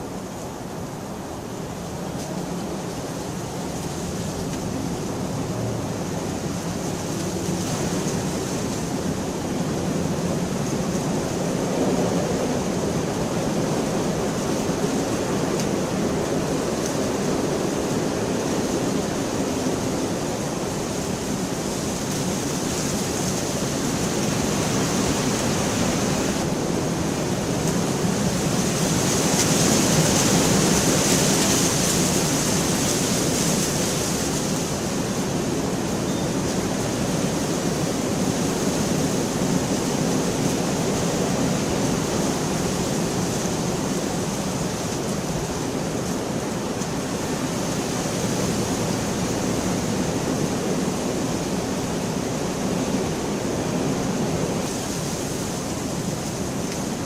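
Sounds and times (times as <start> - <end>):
heavy rainfall: 0.0 - 57.0.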